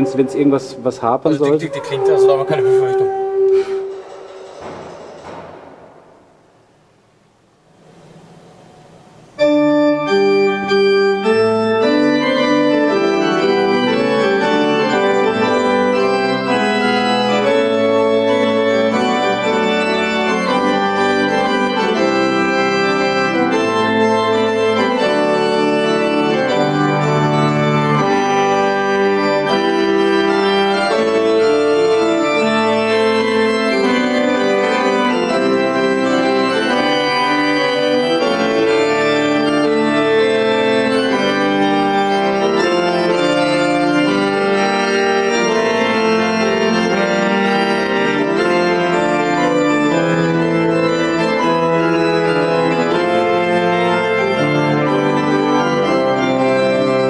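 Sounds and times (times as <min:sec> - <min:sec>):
pipe organ playing: 0:00.0 - 0:05.3, 0:09.1 - 0:57.0.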